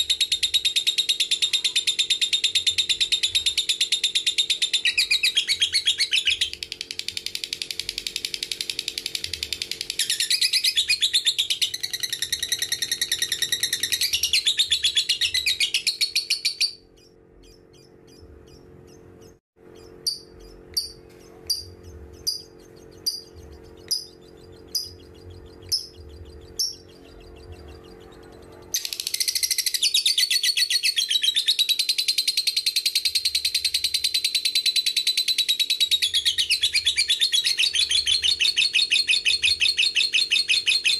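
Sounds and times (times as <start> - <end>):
lovebird chattering trill: 0.0 - 40.9
lovebird sharp chirps: 0.1 - 40.9.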